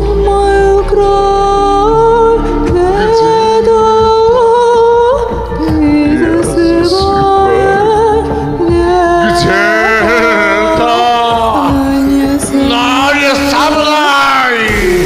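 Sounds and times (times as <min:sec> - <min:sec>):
person singing wordless vocalise: 0:00.0 - 0:15.0
pop backing track: 0:00.0 - 0:15.0.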